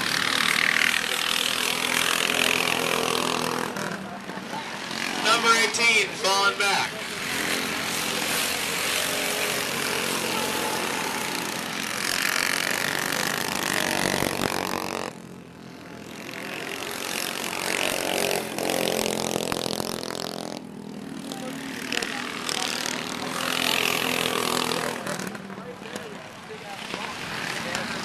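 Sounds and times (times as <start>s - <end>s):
minibike engines racing past: 0.0s - 28.0s.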